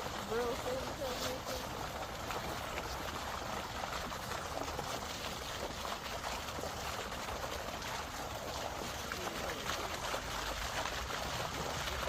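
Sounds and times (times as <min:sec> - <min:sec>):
running water rushing: 0:00.0 - 0:12.0
small splashy ticks: 0:00.0 - 0:12.0.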